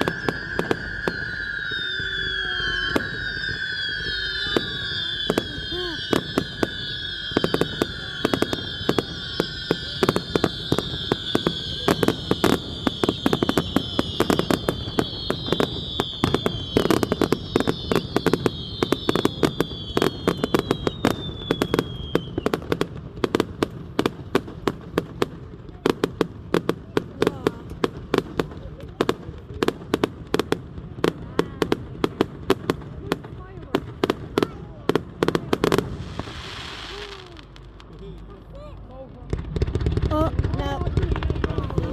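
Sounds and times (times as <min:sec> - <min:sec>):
fireworks whistling: 0:00.0 - 0:38.4, 0:39.4 - 0:41.9
fireworks crackling bangs: 0:00.0 - 0:41.9.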